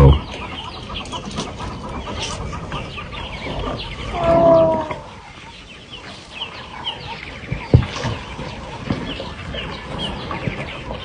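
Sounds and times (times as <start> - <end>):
birds clucking and chirping: 0.0 - 11.0
drawn-out bird call: 0.0 - 11.0.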